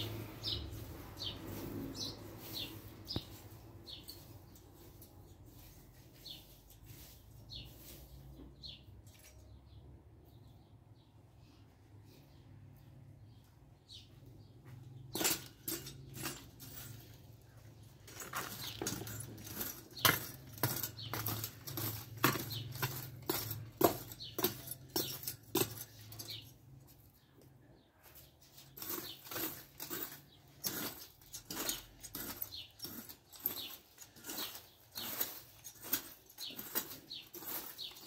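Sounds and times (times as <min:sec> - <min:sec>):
rake scraping dry earth: 0:00.0 - 0:09.3, 0:15.1 - 0:27.0, 0:28.1 - 0:38.0.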